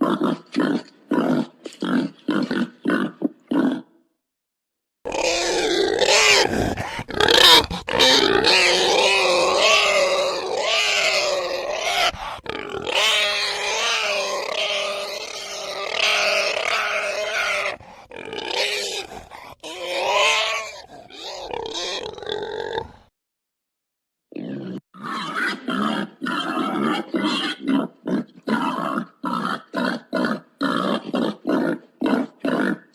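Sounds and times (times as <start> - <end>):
pig grunting and calling: 0.0 - 4.0, 5.0 - 23.1, 24.3 - 32.9.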